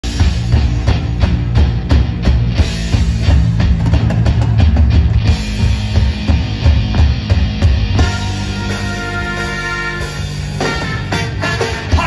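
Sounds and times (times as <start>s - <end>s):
drum kit hits: 0.0s - 12.0s
heavy bass: 0.0s - 12.0s
live ska band playing: 0.0s - 12.0s.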